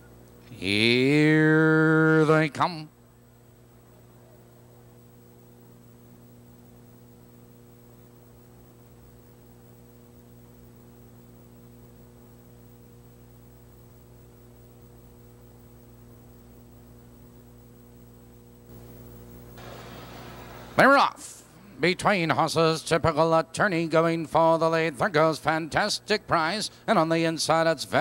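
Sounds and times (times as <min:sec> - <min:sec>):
faint mains hum: 0:00.0 - 0:28.0
tape hiss: 0:00.0 - 0:28.0.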